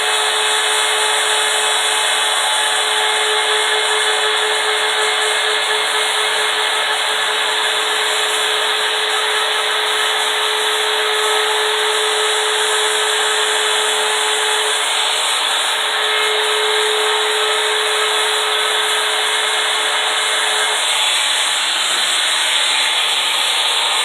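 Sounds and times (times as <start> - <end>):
bit cutting wood hiss: 0.0 - 24.0
wood router whining: 0.0 - 24.0.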